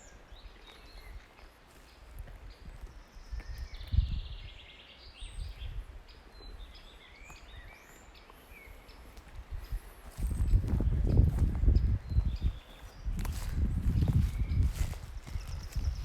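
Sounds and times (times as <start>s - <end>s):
forest birds singing: 0.0s - 16.0s.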